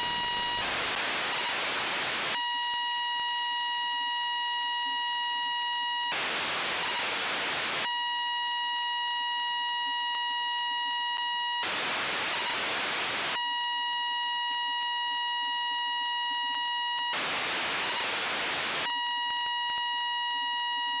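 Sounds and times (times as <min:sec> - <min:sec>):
radio static hiss: 0:00.0 - 0:07.9, 0:09.0 - 0:13.4, 0:14.4 - 0:21.0
steady buzzy tone: 0:00.0 - 0:21.0.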